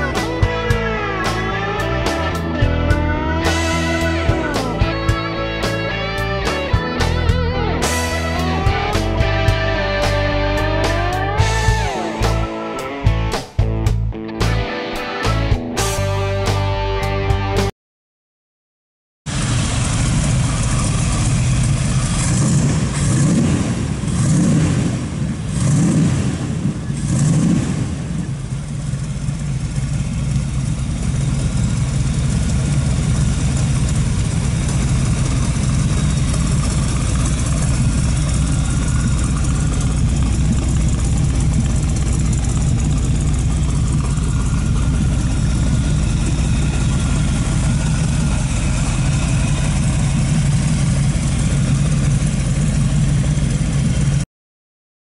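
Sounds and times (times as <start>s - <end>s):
car engine revving and idling: 0.0s - 13.3s, 19.3s - 54.2s.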